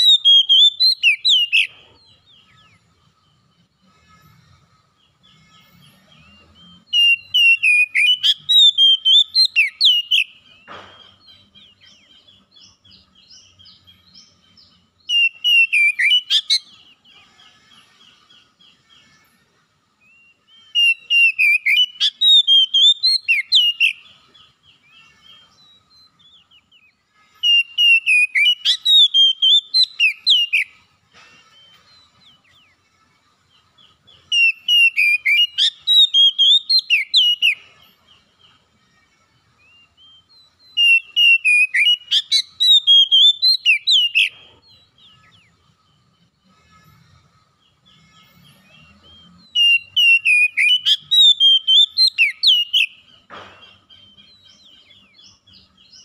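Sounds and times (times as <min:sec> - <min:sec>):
bird whistled song: 0:00.0 - 0:03.5, 0:05.0 - 0:17.2, 0:20.0 - 0:46.1, 0:46.9 - 0:56.0
faint bird chirping: 0:00.0 - 0:56.0.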